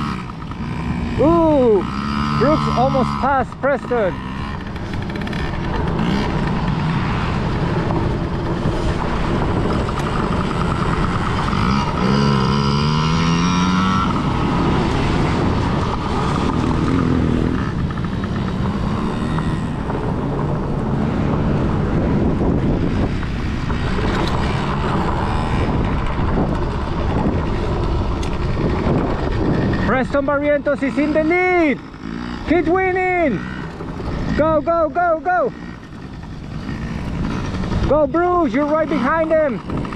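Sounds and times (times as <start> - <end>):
dirt bike engines racing: 0.0 - 39.9.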